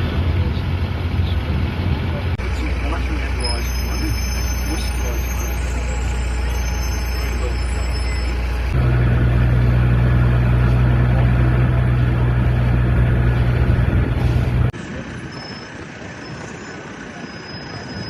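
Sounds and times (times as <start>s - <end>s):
bus engine humming: 0.0s - 18.0s.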